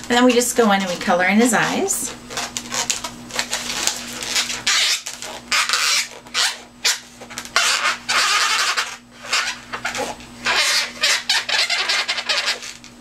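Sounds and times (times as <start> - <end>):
marker pen rubbing on balloon: 0.0 - 12.8.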